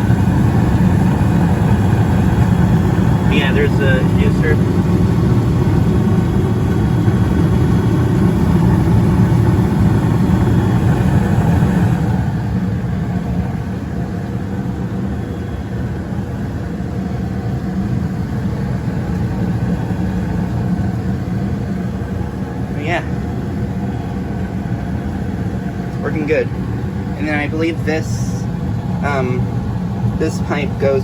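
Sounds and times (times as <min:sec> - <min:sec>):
gas furnace whirring and humming: 0:00.0 - 0:31.0.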